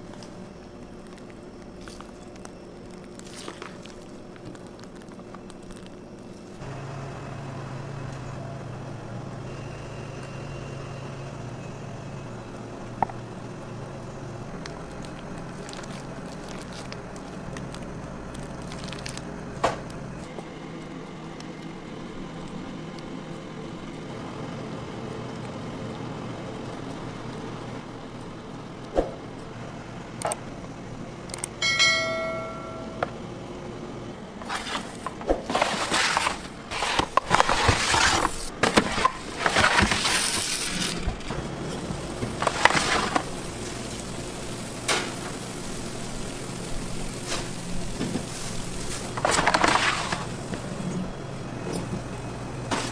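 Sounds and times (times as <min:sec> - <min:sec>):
kitchen equipment hum: 0:00.0 - 0:52.9.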